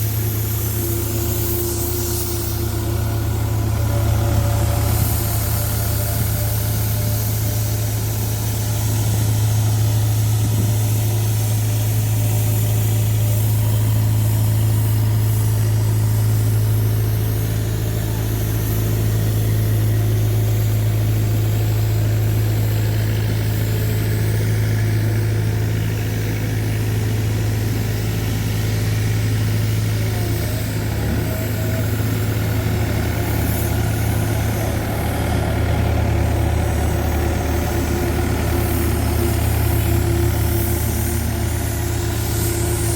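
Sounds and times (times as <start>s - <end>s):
road roller engine humming: 0.0s - 42.9s.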